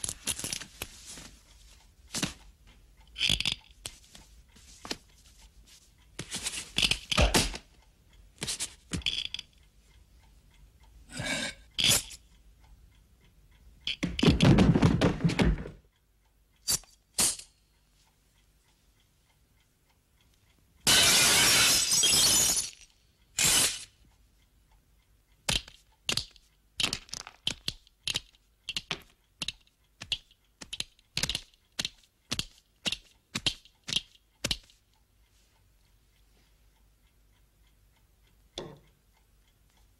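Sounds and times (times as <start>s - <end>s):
steady ticking: 0.0s - 14.2s, 15.8s - 20.9s, 22.9s - 39.9s.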